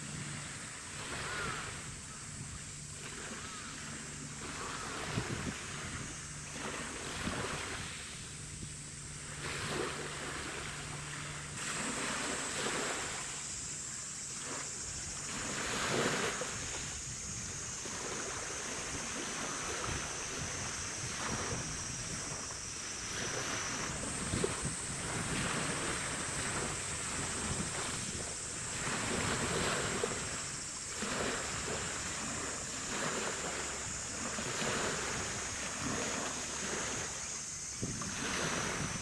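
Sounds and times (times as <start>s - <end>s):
wind buffeting microphone: 0.0s - 13.1s, 15.0s - 37.0s, 37.6s - 39.0s
water lapping: 0.0s - 39.0s.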